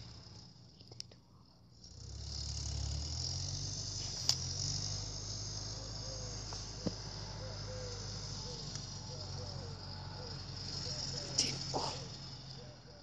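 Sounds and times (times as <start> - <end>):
distant tractor humming: 0.0 - 13.0
insects chirring: 0.0 - 13.0.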